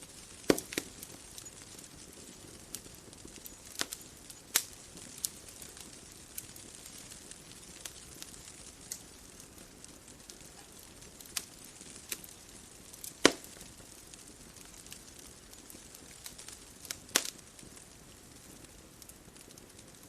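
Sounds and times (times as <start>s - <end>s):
soft steady hiss: 0.0s - 20.0s
wood fire crackling: 0.0s - 20.0s.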